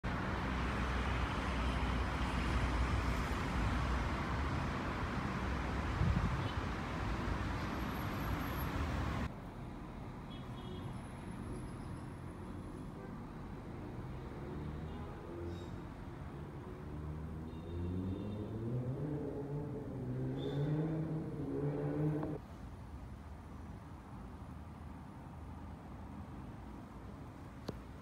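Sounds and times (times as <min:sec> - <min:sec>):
street traffic rumble: 0:00.0 - 0:28.0.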